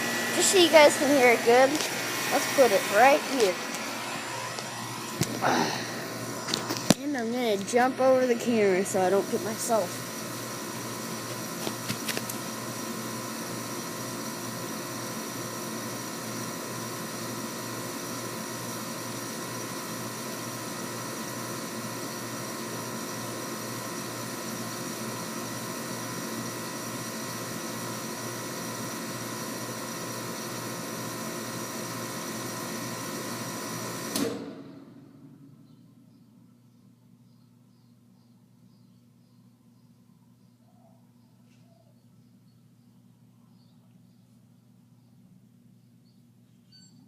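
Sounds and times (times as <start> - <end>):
air conditioner unit humming: 0.0 - 47.0.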